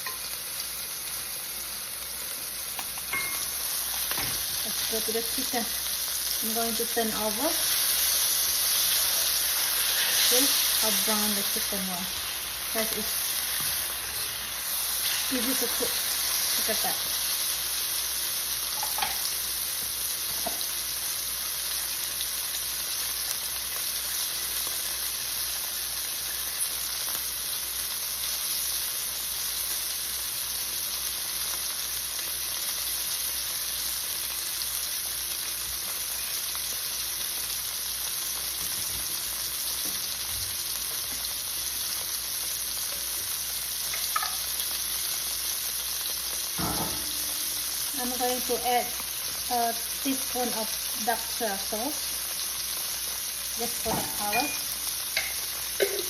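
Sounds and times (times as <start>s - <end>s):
chicken sizzling in a pan: 0.0s - 56.0s.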